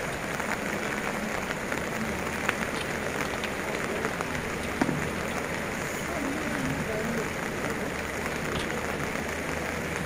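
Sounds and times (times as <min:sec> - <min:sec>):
raindrop ticks: 0:00.0 - 0:10.0
steady rain: 0:00.0 - 0:10.0.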